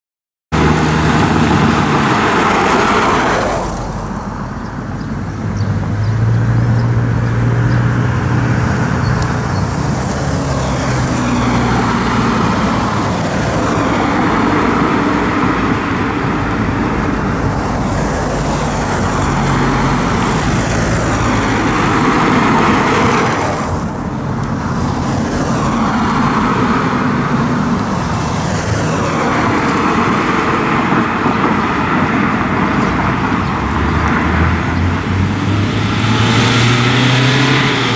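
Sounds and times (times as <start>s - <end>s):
cars passing: 0.5s - 37.9s
trolleybus approaching: 0.6s - 37.9s.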